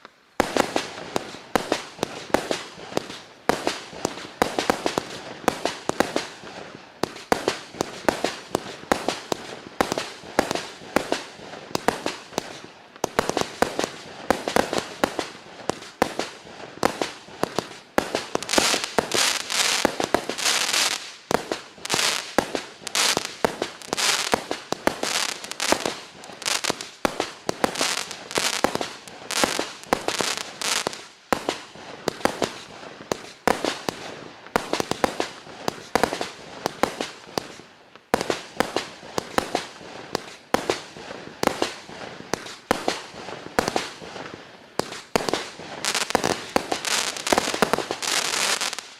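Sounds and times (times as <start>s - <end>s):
dense fireworks crackling: 0.0s - 48.9s
fireworks launches and bangs: 0.0s - 48.9s.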